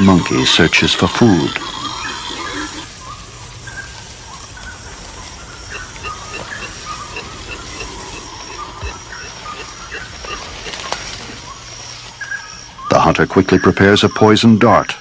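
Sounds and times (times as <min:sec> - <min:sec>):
faint high insect hum: 0:00.0 - 0:15.0
steady hiss: 0:00.0 - 0:15.0.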